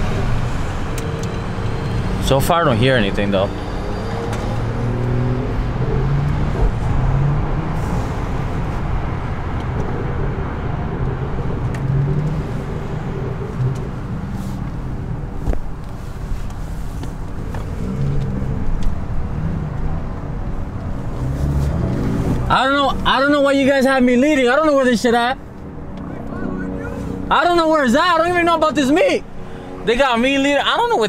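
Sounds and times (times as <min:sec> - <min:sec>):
road and tyre noise: 0:00.0 - 0:31.0
car engine at low revs: 0:04.3 - 0:31.0.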